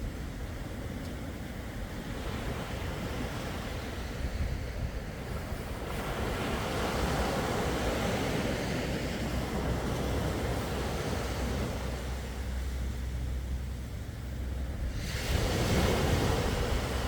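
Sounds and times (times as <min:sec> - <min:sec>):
sea waves washing onto shore: 0:00.0 - 0:17.0
wind rumble on microphone: 0:00.0 - 0:17.0.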